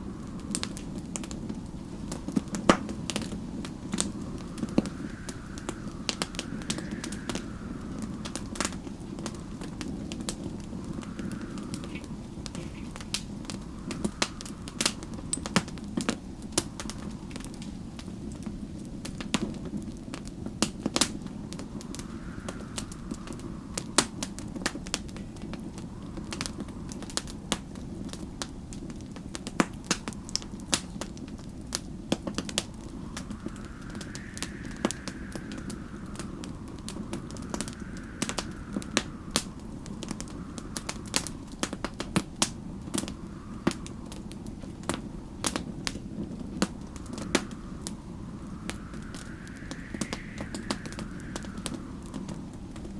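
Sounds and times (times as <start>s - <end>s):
low rumble of flames: 0.0s - 52.9s
storm wind howling: 0.0s - 52.9s
wood fire crackling and popping: 0.0s - 52.9s.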